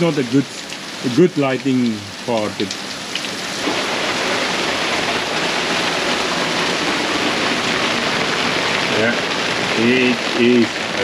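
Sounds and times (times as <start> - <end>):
heavy rain on sea and boat: 0.0 - 11.0.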